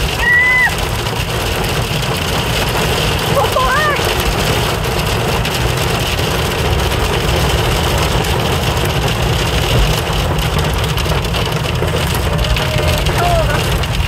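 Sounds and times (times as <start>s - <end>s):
hail and rain drumming on car roof: 0.0s - 14.0s
low rumble of moving car: 0.0s - 14.0s.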